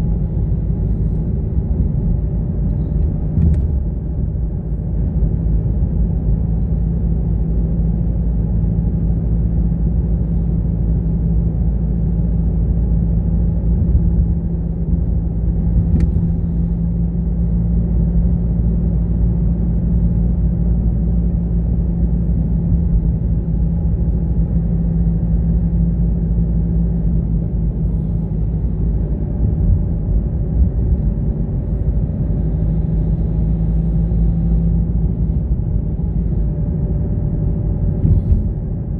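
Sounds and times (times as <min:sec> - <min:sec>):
car engine and road noise: 0:00.0 - 0:38.9
steady low hum: 0:00.0 - 0:38.9.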